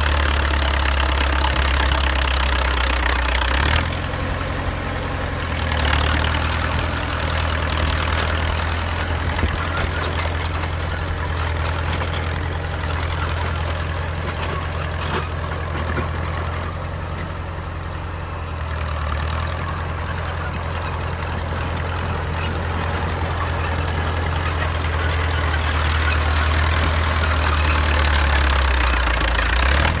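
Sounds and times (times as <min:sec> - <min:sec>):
bulldozer engine droning: 0:00.0 - 0:30.0.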